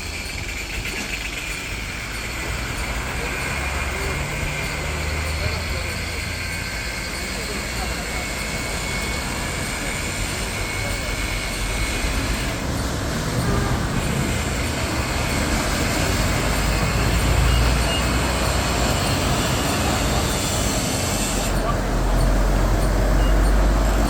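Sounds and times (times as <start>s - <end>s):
car wash machine rushing: 0.0s - 24.0s.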